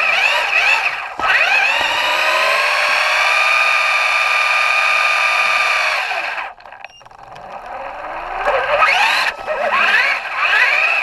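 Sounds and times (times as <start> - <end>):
toy car electric motor whining: 0.0 - 11.0.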